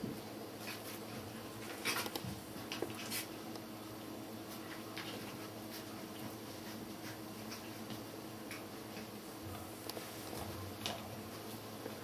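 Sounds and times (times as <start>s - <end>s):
background hiss and hum: 0.0s - 12.0s
puppies scuffling on carpet: 0.0s - 12.0s.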